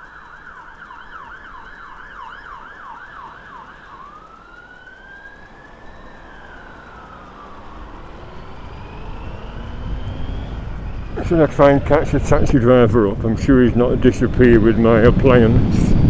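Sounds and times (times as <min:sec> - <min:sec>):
ambulance siren: 0:00.0 - 0:16.0.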